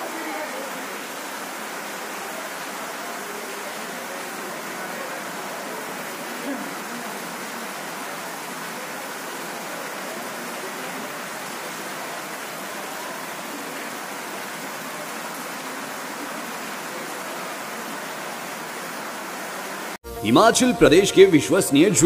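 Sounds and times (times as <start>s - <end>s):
faint voices: 0.0s - 19.7s
heavy rain: 0.0s - 20.2s.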